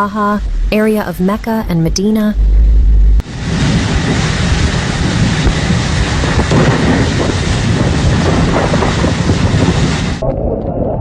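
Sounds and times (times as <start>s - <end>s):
storm wind on microphone: 0.3s - 11.0s.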